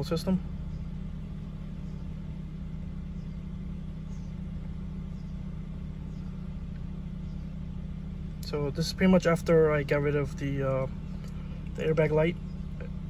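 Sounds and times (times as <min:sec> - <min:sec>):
low hum inside car cabin: 0:00.0 - 0:13.0.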